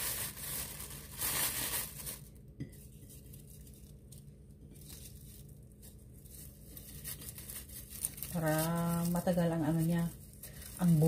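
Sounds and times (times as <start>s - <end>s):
seaweed sheets rustling: 0.0s - 2.4s, 3.0s - 11.0s
plastic bag crinkling: 0.0s - 11.0s.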